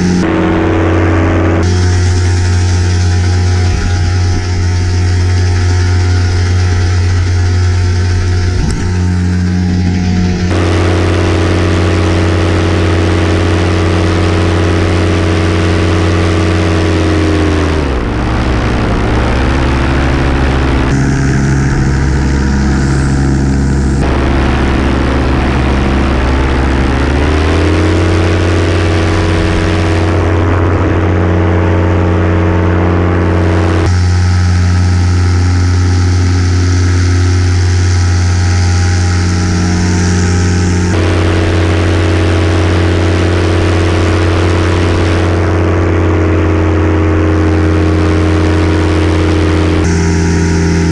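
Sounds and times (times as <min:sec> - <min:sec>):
paramotor engine and propeller: 0:00.0 - 0:50.9.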